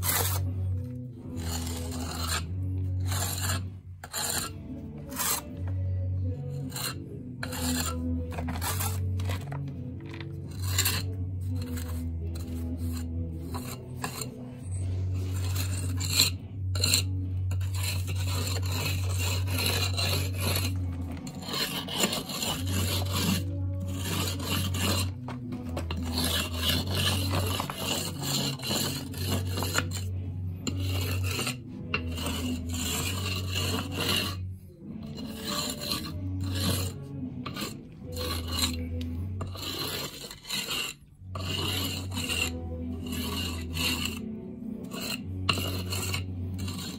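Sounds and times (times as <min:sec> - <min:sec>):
steel jointer rasping on mortar: 0:00.0 - 0:46.9.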